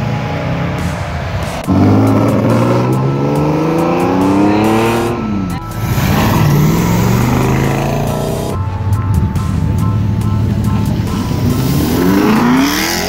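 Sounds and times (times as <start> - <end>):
another car engine revving: 0.0 - 13.0
car engine accelerating hard: 0.0 - 13.0.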